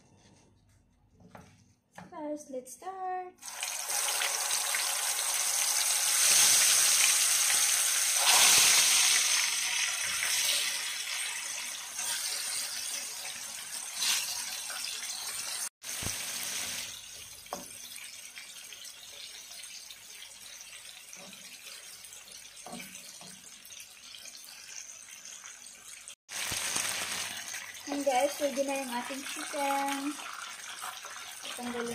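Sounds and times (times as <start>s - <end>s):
chicken sizzling in oil: 3.4s - 31.9s.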